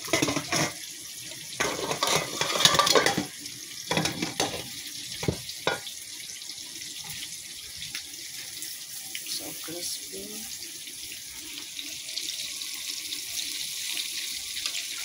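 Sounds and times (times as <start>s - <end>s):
oil sizzling in a wok: 0.0s - 15.0s.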